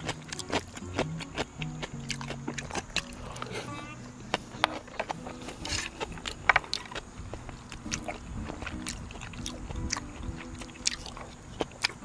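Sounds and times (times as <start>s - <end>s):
person chewing: 0.0s - 12.0s
soft background music: 0.0s - 12.0s.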